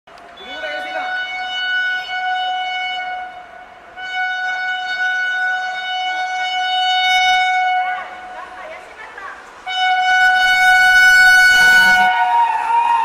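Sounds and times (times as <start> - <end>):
locomotive twin-tone horn: 0.4 - 8.6, 9.6 - 13.0.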